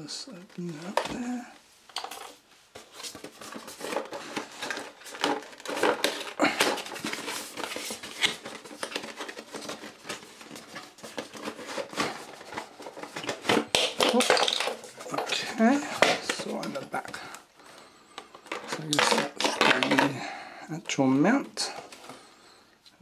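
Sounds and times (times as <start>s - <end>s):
packaging rustling: 0.3s - 20.2s.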